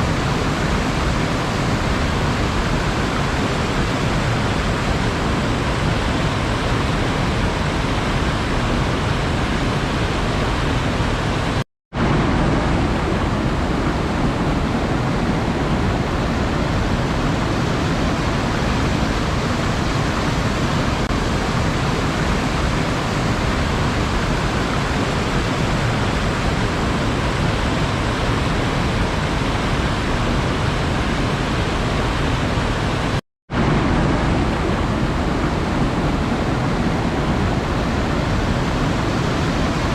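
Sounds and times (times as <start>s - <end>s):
rush of sea water: 0.0s - 39.9s.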